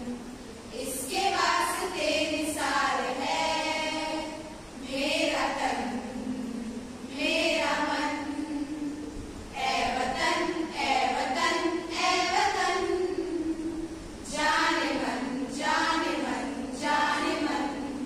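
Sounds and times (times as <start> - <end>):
women singing in unison: 0.0 - 18.0.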